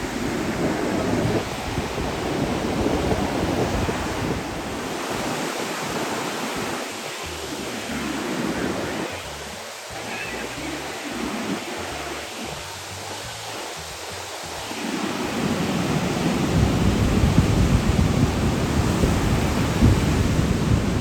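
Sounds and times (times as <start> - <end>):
wind buffeting microphone: 0.0 - 10.4, 11.1 - 21.0
ocean waves breaking: 0.0 - 21.0.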